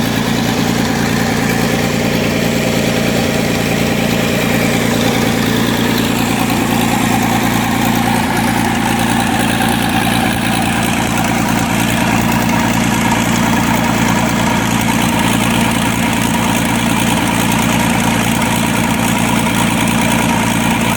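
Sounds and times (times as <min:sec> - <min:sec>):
diesel engine idling: 0:00.0 - 0:20.9.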